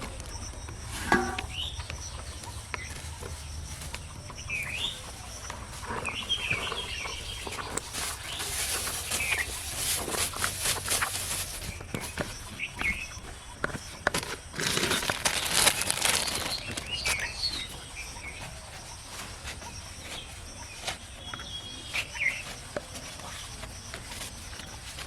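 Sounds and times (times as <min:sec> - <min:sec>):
birds chirping: 0:00.0 - 0:25.0
outdoor background noise: 0:00.0 - 0:25.0.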